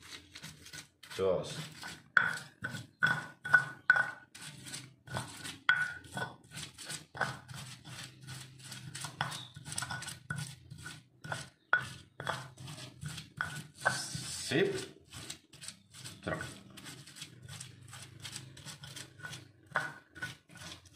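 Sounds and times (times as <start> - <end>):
stone pestle grinding paste: 0.0 - 20.9.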